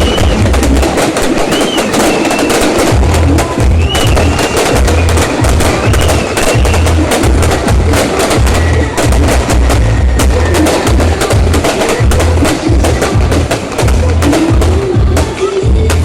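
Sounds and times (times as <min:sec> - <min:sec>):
deep booms: 0:00.0 - 0:16.0
fireworks crackling: 0:00.0 - 0:16.0.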